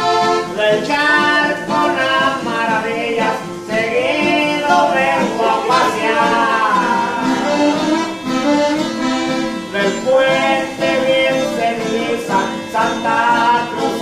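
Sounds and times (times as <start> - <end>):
button accordion: 0.0 - 2.5, 4.1 - 14.0
men singing: 0.0 - 8.0, 9.7 - 14.0
strummed acoustic guitar: 0.0 - 14.0.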